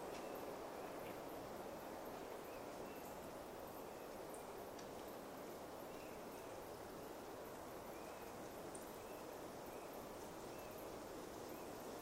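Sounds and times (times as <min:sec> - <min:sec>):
faint insect ticking: 0:00.0 - 0:12.0
soft forest rush: 0:00.0 - 0:12.0.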